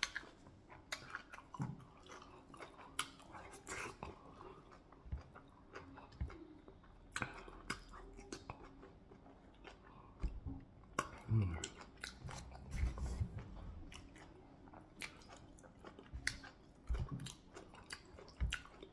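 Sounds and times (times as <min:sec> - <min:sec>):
person chewing with wet smacks: 0:00.0 - 0:18.9.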